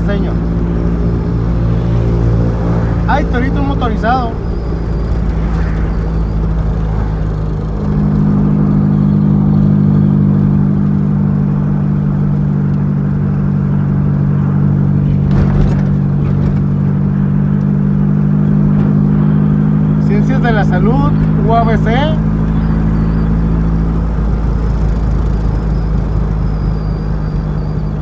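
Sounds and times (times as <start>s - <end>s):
road noise: 0.0s - 28.0s
vehicle engine droning: 0.0s - 28.0s.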